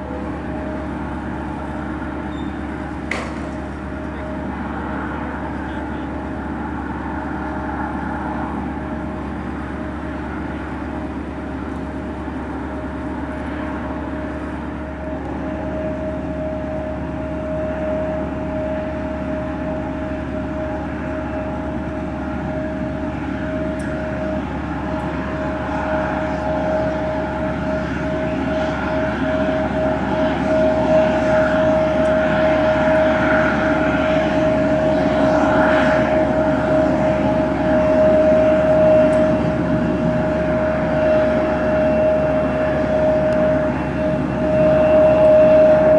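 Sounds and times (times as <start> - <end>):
jet engine whine and rumble: 0.0 - 45.9.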